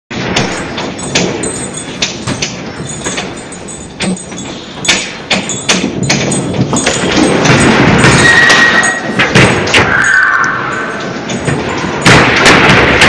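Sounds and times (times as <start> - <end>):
earthquake rumble: 0.1 - 13.0
walls and furniture rattling: 0.1 - 13.0.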